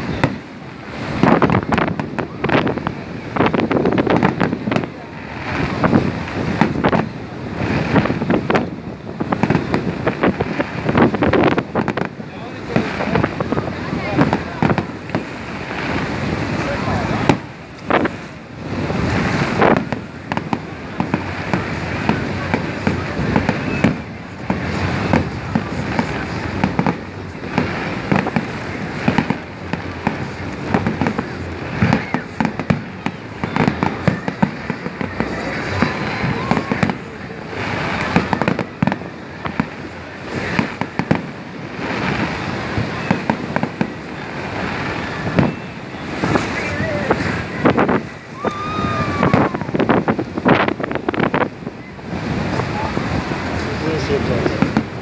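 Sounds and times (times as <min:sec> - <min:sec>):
fireworks bangs and crackles: 0:00.0 - 0:55.0
small waves washing in: 0:00.0 - 0:55.0
wind rumbling on microphone: 0:00.0 - 0:55.0.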